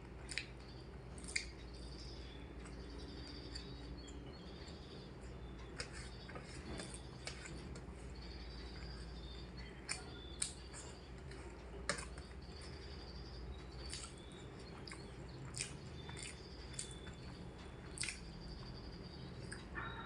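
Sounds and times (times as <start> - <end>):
faint chirping: 0.0 - 20.0
clicks and taps of eating: 0.1 - 20.0.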